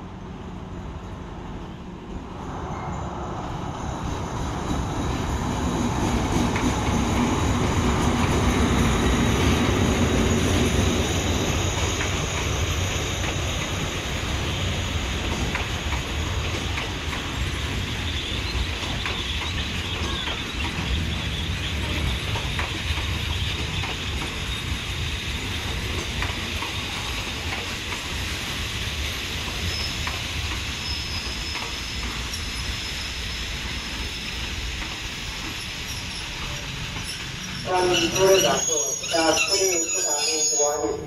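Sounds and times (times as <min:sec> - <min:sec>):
diesel train rumbling on track: 0:00.0 - 0:41.0.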